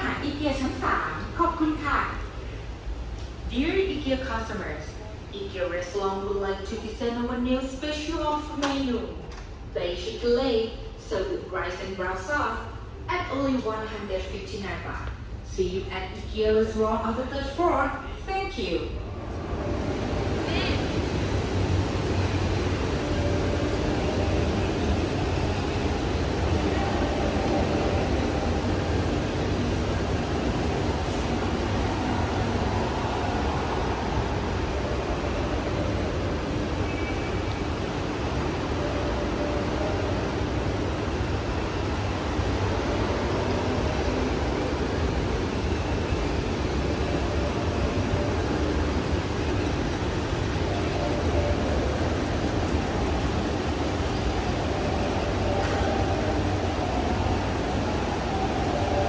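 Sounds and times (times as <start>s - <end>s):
store indoor rumble: 0.0s - 59.0s.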